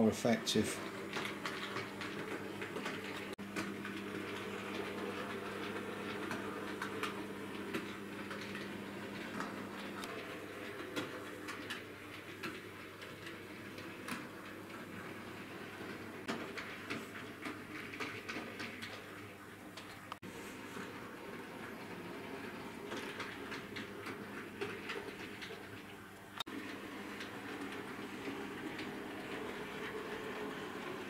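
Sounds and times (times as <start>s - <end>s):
wheels clicking on rails: 0.0s - 31.0s
electric motor hum: 0.7s - 16.2s, 20.3s - 31.0s.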